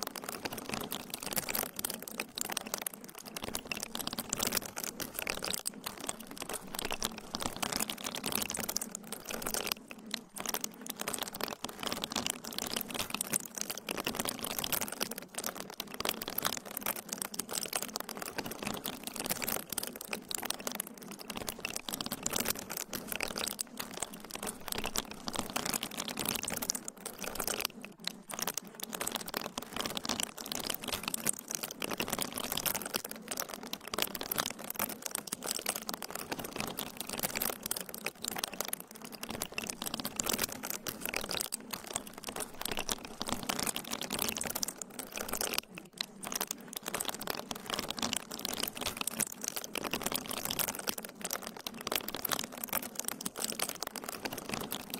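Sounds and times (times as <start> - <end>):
dense crackling and crinkling: 0.0 - 54.9.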